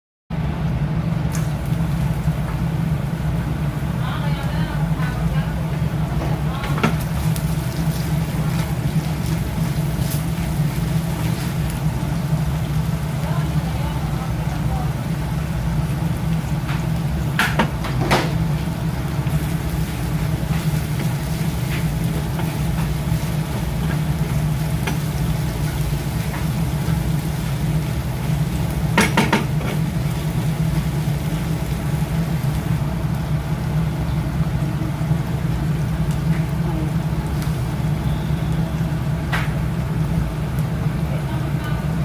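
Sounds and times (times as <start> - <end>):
steady low hum: 0.3 - 42.0
food sizzling in a pan: 1.4 - 42.0.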